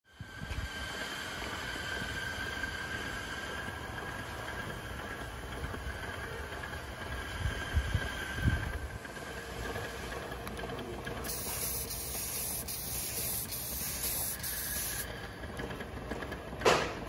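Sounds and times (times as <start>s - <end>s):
steam locomotive hissing and whistling: 0.2s - 10.2s, 11.2s - 15.8s.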